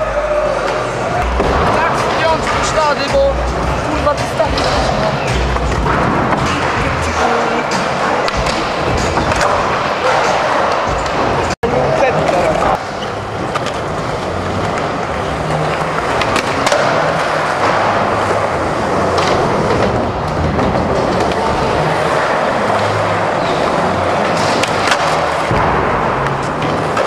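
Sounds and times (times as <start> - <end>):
skateboard wheels rolling on concrete: 0.0 - 27.0.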